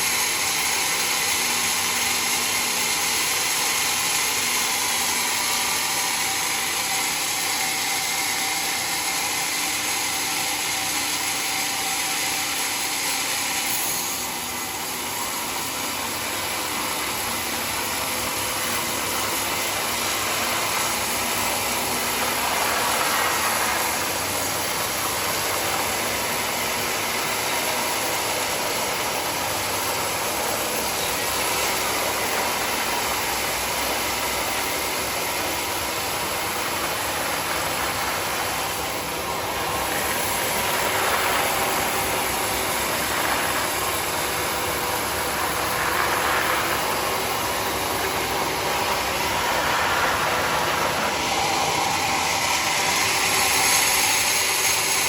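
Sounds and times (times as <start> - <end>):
sawmill blade cutting wood: 0.0 - 55.0.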